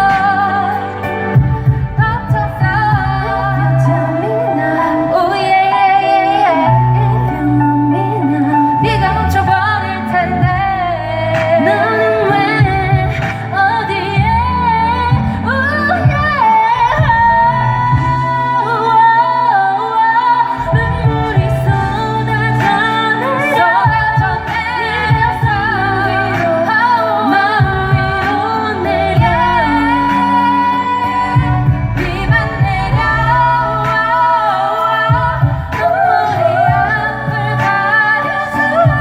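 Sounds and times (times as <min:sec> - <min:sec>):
pop backing track: 0:00.0 - 0:39.0
woman singing: 0:00.0 - 0:39.0.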